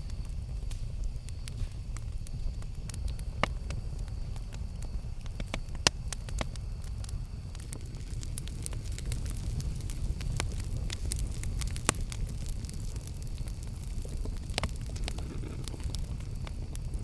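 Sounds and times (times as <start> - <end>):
campfire crackling and popping: 0.0 - 17.0
loud fire snaps: 0.0 - 17.0
steady low rumble: 0.0 - 17.0.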